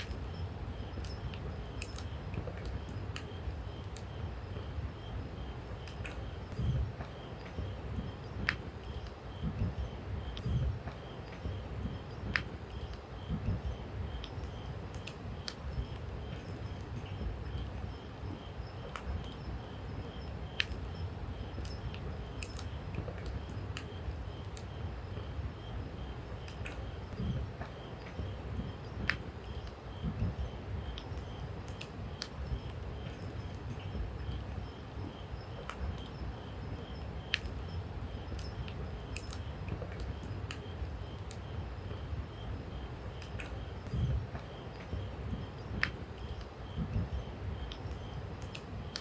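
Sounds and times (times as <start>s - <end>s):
campfire crackling and popping: 0.0s - 42.2s, 42.8s - 49.0s
insect chirping: 0.0s - 49.0s
low steady rumble: 0.0s - 49.0s.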